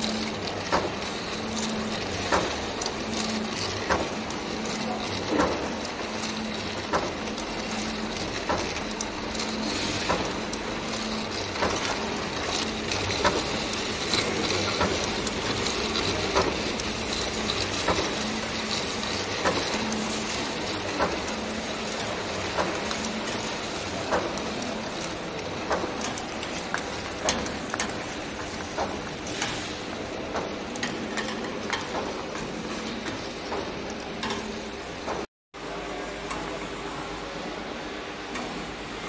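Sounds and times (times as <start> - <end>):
sharp machine clicks: 0.0 - 35.3
machine humming: 0.0 - 38.9.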